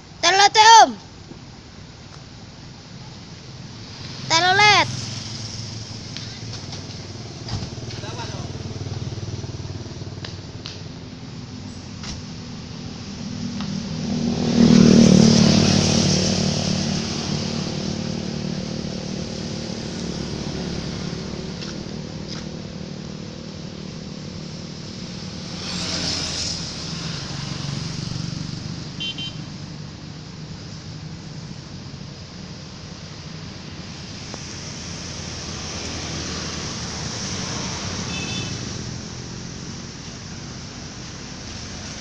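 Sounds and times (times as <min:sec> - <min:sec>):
traffic engine hum: 0:00.0 - 0:42.0
vehicle passing close: 0:03.8 - 0:42.0.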